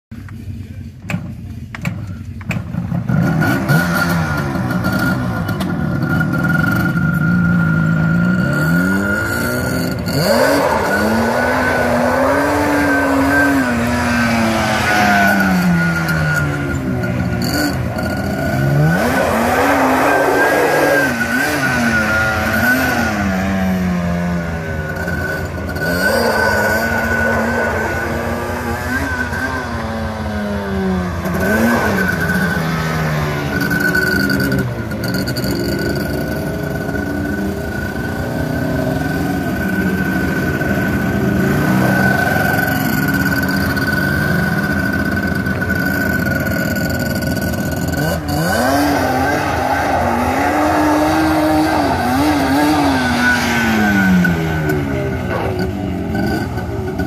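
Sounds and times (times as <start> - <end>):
two-stroke quad engine revving: 2.7 - 57.0.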